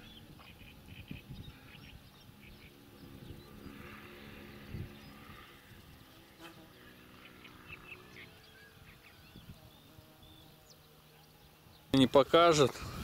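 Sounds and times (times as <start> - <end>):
distant outboard motor: 0.0 - 12.6
birds chirping: 0.0 - 13.0.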